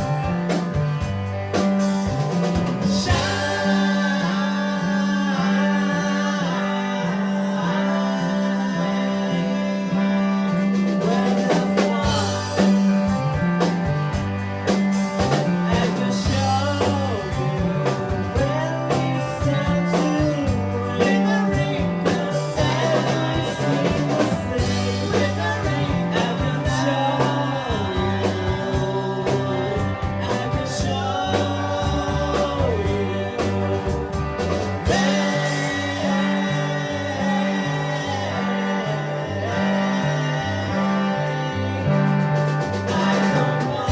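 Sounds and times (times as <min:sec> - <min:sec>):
drums: 0:00.0 - 0:43.9
guitar: 0:00.0 - 0:43.9
stepping bass line: 0:00.0 - 0:43.9
person singing: 0:02.7 - 0:13.3, 0:15.2 - 0:43.9.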